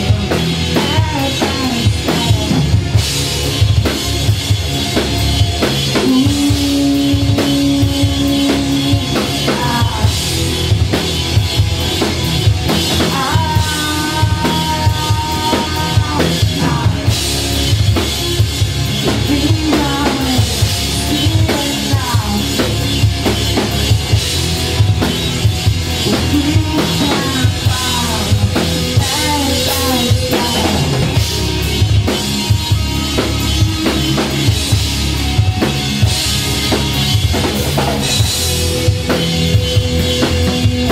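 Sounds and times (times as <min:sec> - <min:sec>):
bass guitar: 0:00.0 - 0:40.9
distorted electric guitars: 0:00.0 - 0:40.9
drum kit beat: 0:00.0 - 0:40.9.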